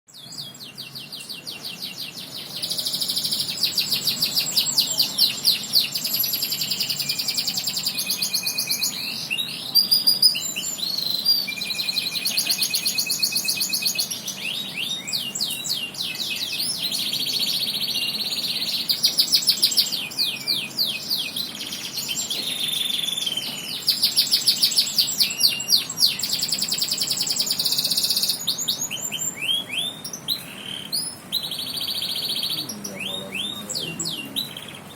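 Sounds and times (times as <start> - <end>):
canary singing: 0.1 - 34.9.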